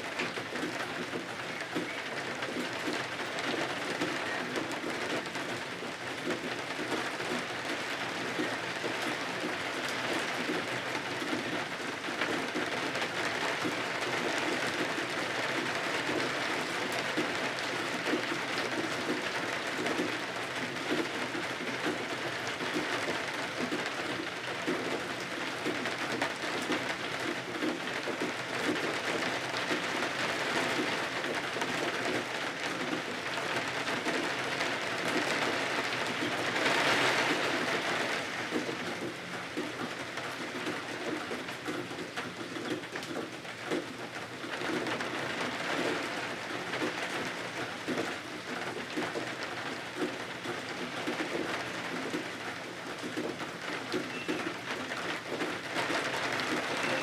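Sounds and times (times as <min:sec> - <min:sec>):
rain pattering on windows: 0:00.0 - 0:57.0.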